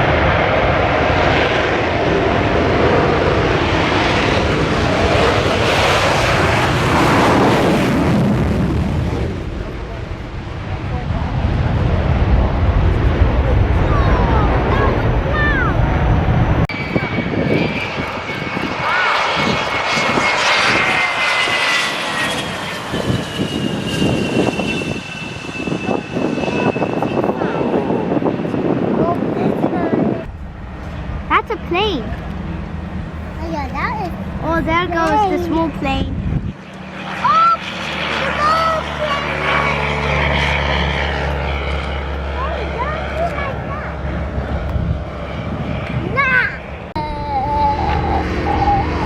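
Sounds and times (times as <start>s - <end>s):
aircraft flying over: 0.0s - 49.0s.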